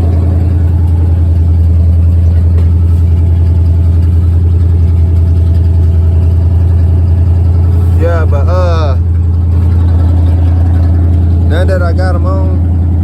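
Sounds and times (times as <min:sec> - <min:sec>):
deep exhaust drone: 0:00.0 - 0:13.0.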